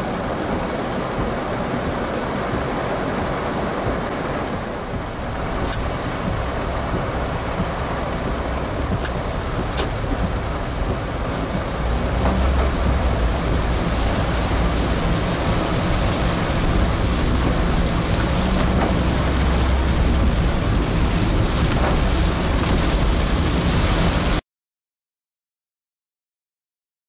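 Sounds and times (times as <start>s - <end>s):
car engine and road drone: 0.0s - 24.4s
rain and tyre spray hiss: 0.0s - 24.4s.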